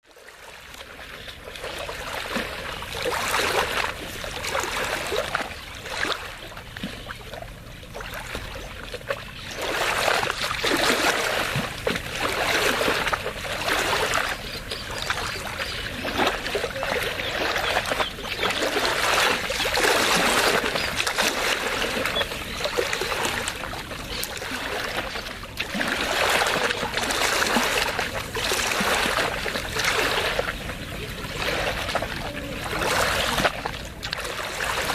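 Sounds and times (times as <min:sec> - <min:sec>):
small waves lapping on shore: 0:00.0 - 0:34.9.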